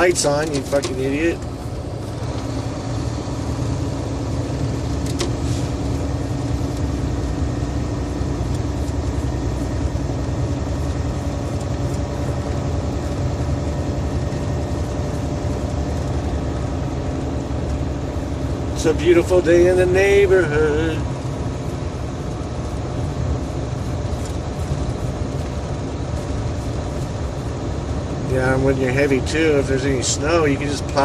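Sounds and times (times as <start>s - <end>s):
road noise: 0.0s - 31.0s
truck diesel engine droning: 0.0s - 31.0s.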